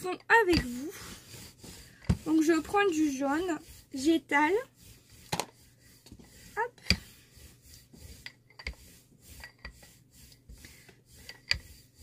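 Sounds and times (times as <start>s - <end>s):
rubber roller rolling paint: 0.0s - 12.0s.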